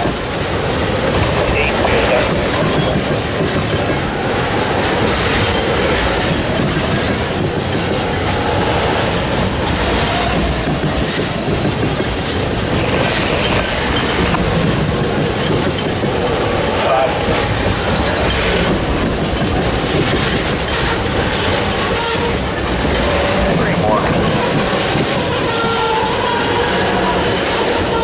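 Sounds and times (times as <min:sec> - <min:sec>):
freight train rolling past: 0:00.0 - 0:28.0
wheels clacking over rail joints: 0:00.0 - 0:28.0.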